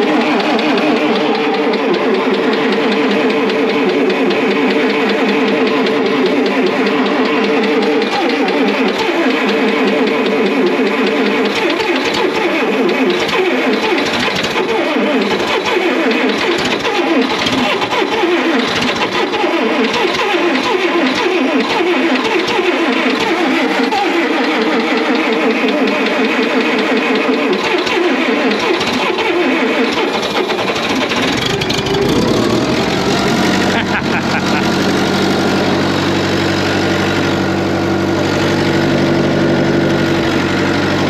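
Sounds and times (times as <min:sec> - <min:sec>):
engine running with wavering pitch: 0:00.0 - 0:41.0.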